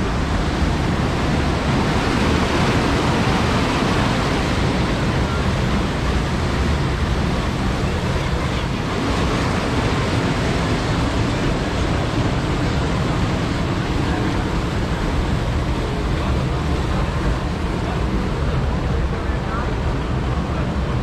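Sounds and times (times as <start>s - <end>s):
water rushing over rapids: 0.0s - 21.0s
wind rumbling on microphone: 0.0s - 21.0s.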